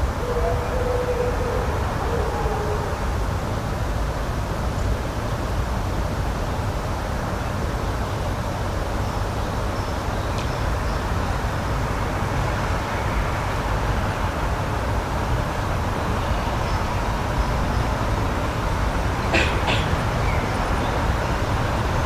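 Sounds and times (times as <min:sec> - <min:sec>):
rushing outdoor background noise: 0:00.0 - 0:22.0.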